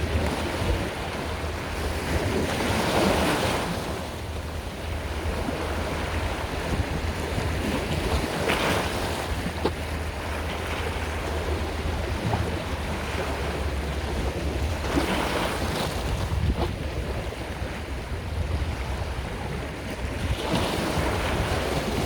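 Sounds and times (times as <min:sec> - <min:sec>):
sea waves breaking on shore: 0:00.0 - 0:22.0
wind rumble on microphone: 0:00.0 - 0:22.0.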